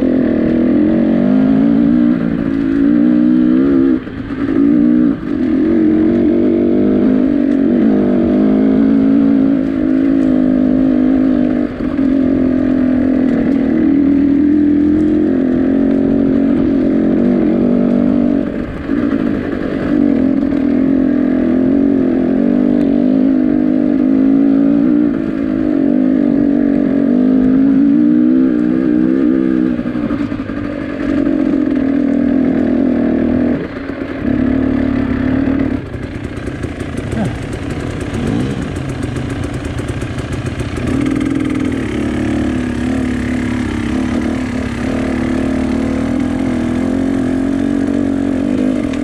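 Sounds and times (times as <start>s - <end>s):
vehicle engine running under load: 0.0s - 49.0s.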